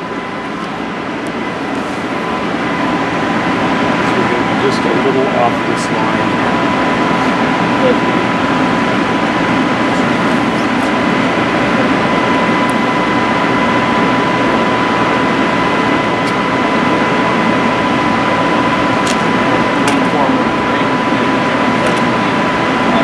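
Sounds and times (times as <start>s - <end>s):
high-pitched whine: 0.0s - 23.0s
loud fan noise: 0.0s - 23.0s.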